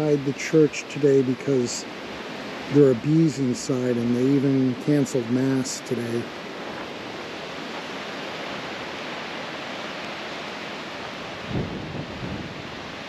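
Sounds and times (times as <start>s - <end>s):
low buffets on microphone: 0.0s - 13.0s
wind rushing hiss: 0.0s - 13.0s.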